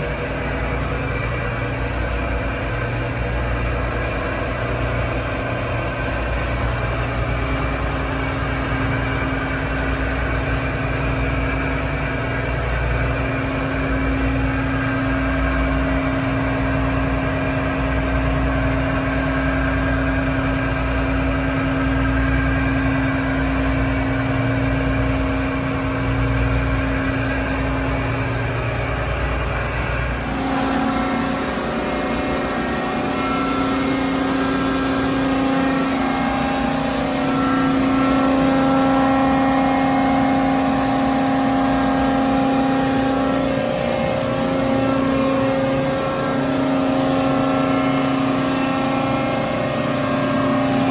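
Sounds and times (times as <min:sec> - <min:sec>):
ship engine room machinery throb: 0:00.0 - 0:50.9.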